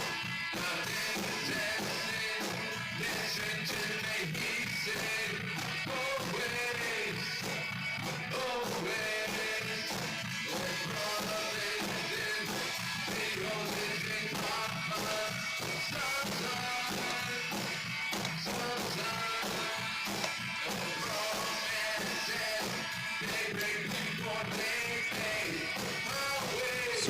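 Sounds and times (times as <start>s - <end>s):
rock music with singing: 0.0s - 27.0s.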